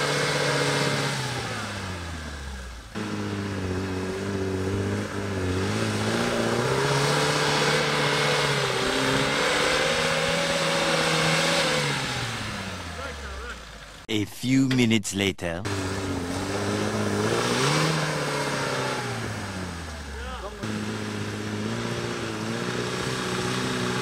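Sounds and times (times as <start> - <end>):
off-road vehicle engine revving: 0.0 - 14.1, 15.6 - 24.0.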